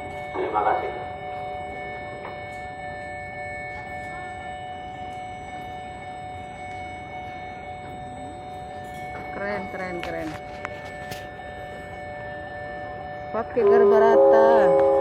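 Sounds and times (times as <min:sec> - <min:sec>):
ship machinery hum: 0:00.0 - 0:15.0.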